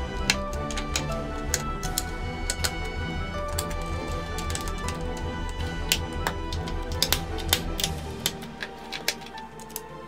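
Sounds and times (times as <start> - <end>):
light background music: 0.0 - 10.0
plastic bricks snapping together: 0.0 - 10.0.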